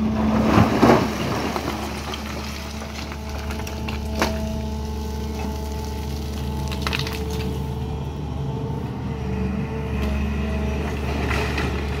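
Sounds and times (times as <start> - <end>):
excavator diesel engine: 0.0 - 12.0
hydraulic whine: 1.9 - 11.9.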